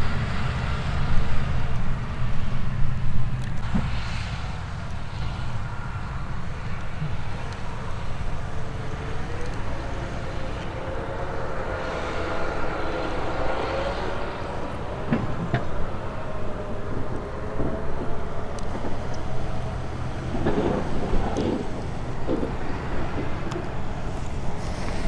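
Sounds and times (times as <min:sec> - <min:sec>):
harvest machinery engine drone: 0:00.0 - 0:25.0
wind rumble on microphone: 0:00.0 - 0:25.0.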